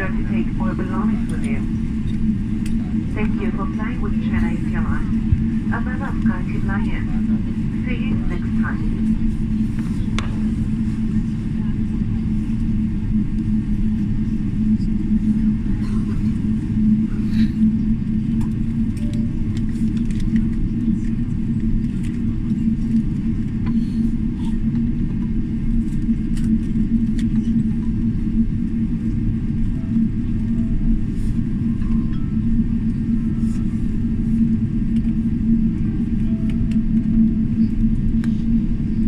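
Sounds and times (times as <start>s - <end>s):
airplane cabin rumble: 0.0s - 39.0s.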